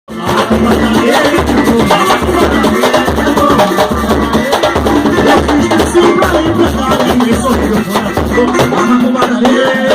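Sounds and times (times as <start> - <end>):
busy lighter percussion: 0.1 - 9.9
low drum beat: 0.1 - 9.9
pitched melodic parts: 0.1 - 9.9.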